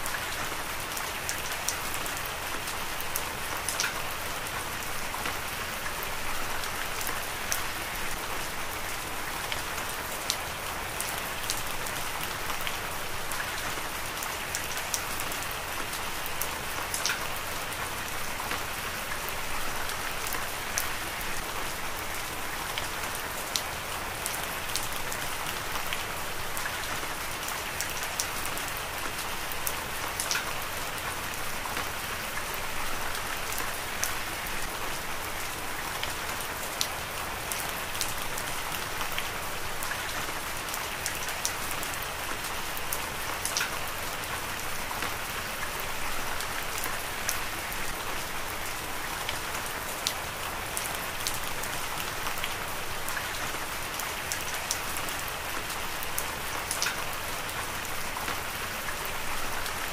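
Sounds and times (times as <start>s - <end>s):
heavy rain falling: 0.0s - 59.9s
sharp ticks of raindrops: 0.0s - 59.9s.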